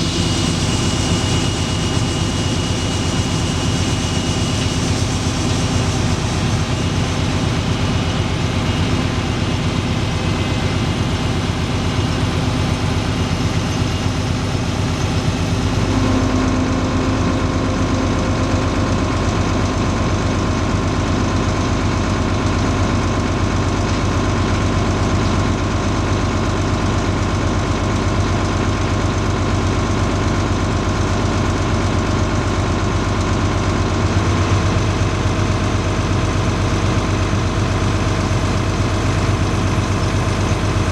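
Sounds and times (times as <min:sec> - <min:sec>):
steady whine: 0:00.0 - 0:23.9, 0:30.8 - 0:40.9
diesel engine running: 0:00.0 - 0:40.9.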